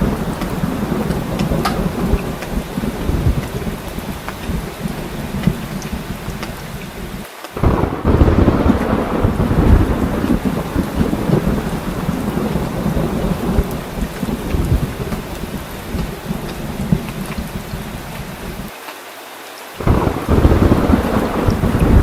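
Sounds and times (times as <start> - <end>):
thunder rumbling: 0.0 - 18.7, 19.8 - 22.0
heavy rain: 0.0 - 22.0.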